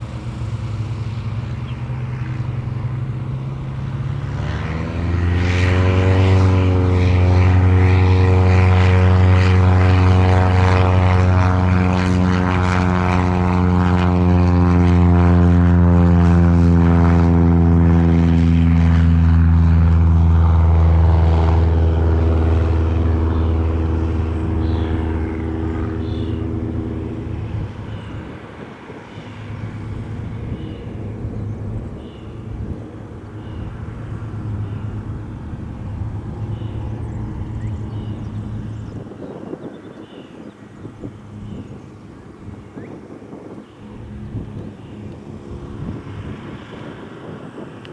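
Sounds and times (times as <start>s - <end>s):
propeller plane engine: 0.0s - 47.9s.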